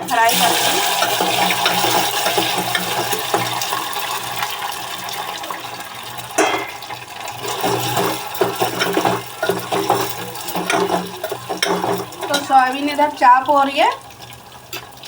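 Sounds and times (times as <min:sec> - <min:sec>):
food sizzling in hot oil: 0:00.0 - 0:15.0
oil crackling and spattering: 0:00.1 - 0:13.4.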